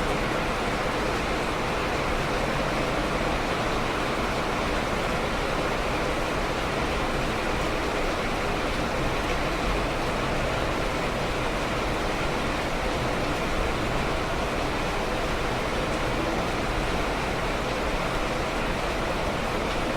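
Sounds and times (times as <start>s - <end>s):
steady rain: 0.0s - 19.9s.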